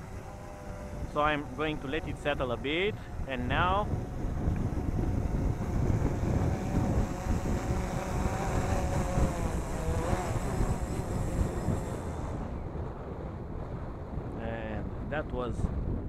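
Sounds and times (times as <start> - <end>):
drone motors whining: 0.0 - 13.2
wind buffeting microphone: 0.0 - 16.0.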